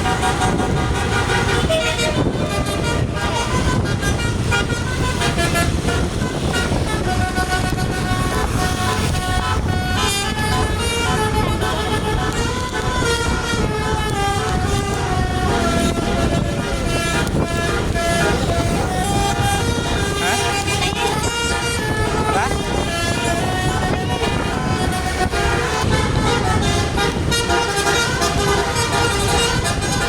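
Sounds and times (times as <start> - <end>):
bus engine rumble: 0.0 - 30.0
multi-trumpet bus horn tune: 0.0 - 30.0.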